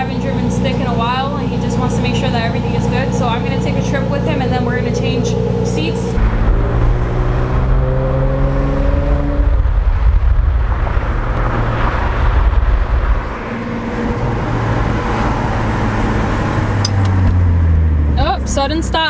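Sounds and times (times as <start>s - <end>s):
car engine accelerating: 0.0s - 19.0s
road noise: 0.0s - 19.0s.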